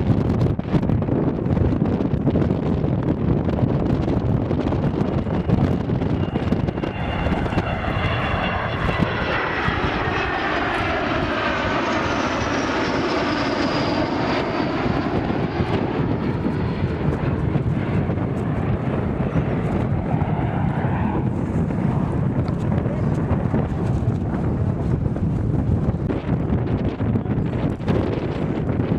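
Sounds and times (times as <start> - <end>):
aircraft engine flying past: 0.0 - 28.9.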